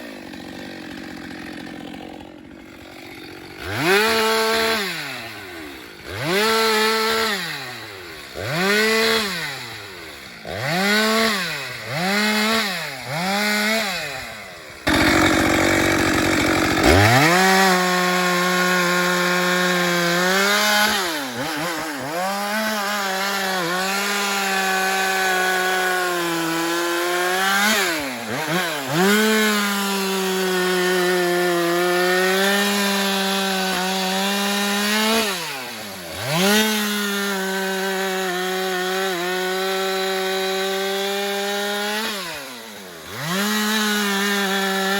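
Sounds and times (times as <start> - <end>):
chainsaw revving and cutting wood: 0.0 - 44.9.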